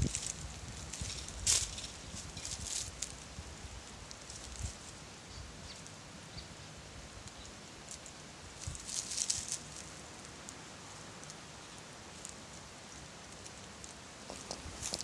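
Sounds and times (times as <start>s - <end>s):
dry leaves crackling: 0.0s - 6.0s, 7.0s - 15.0s.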